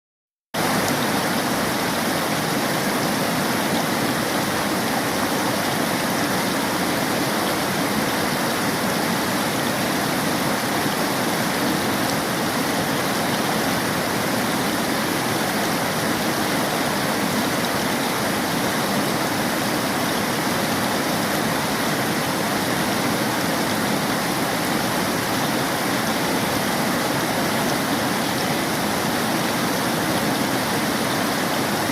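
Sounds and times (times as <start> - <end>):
river water rushing over rocks: 0.6 - 31.9.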